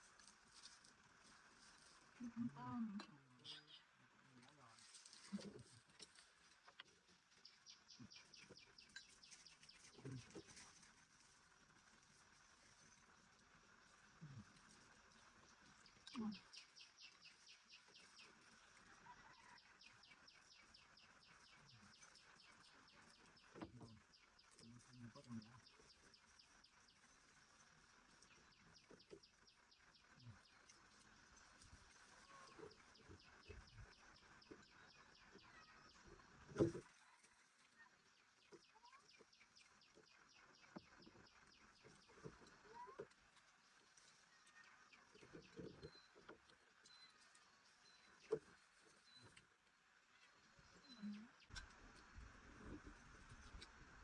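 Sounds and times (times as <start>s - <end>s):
small bird chirping: 6.6s - 11.3s, 12.4s - 54.0s.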